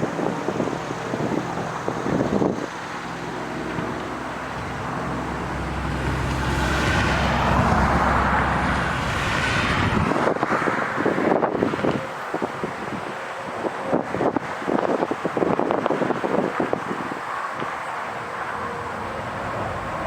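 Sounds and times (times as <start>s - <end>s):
car passing: 0.0s - 13.5s, 16.0s - 20.0s.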